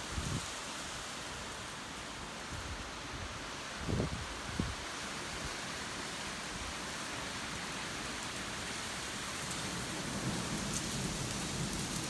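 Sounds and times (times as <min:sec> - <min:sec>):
wind and rain through trees: 0:00.0 - 0:12.0.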